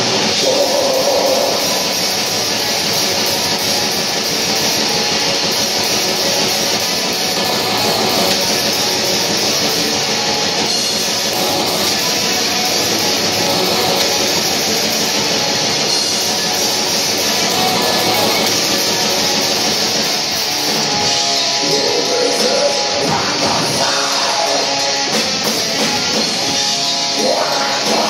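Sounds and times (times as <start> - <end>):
bass guitar: 0.0 - 28.0
distorted electric guitars: 0.0 - 28.0
drums: 0.0 - 28.0.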